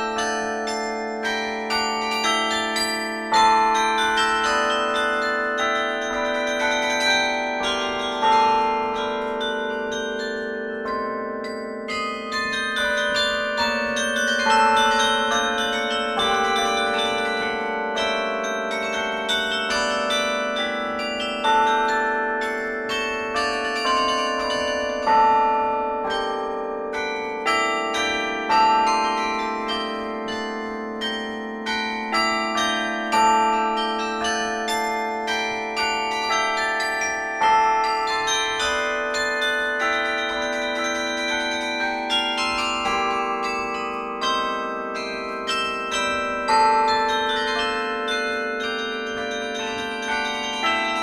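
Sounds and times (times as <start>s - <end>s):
carillon bells playing melody: 0.0s - 51.0s.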